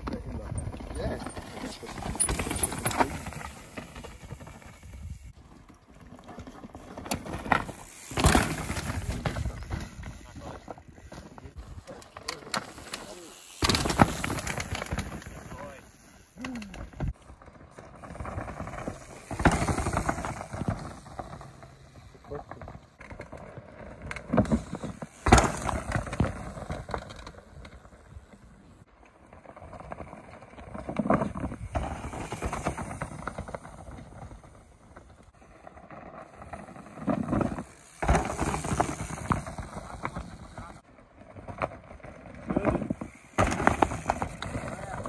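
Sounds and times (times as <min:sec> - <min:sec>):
bikes rattling: 0:00.0 - 0:45.0.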